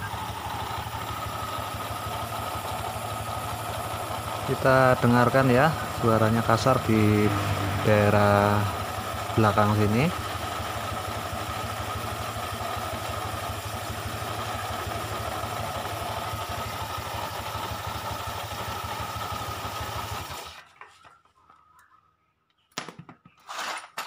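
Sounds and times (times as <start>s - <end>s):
scooter engine idling: 0.0s - 20.6s.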